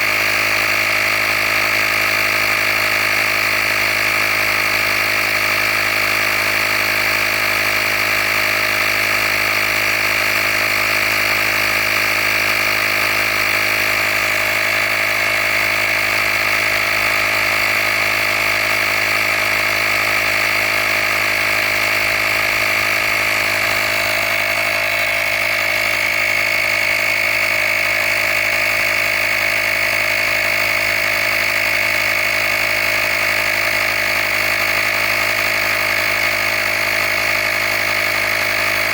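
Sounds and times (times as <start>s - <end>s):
air compressor motor humming: 0.0s - 38.9s.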